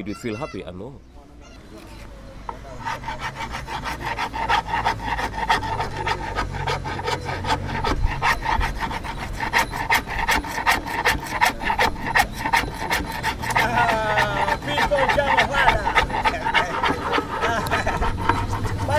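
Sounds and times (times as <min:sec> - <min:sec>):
hand tool rasping: 0:02.5 - 0:18.9.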